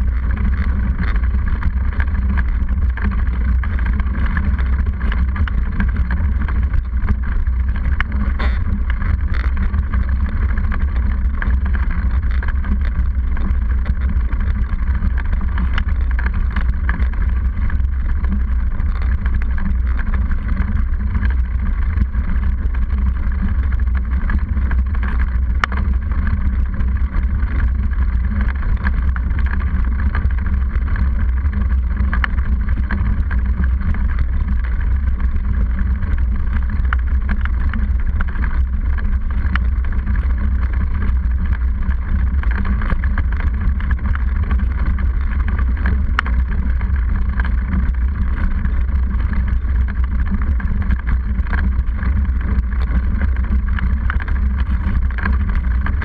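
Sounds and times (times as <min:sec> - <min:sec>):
bike clicks and rattles: 0:00.0 - 0:56.0.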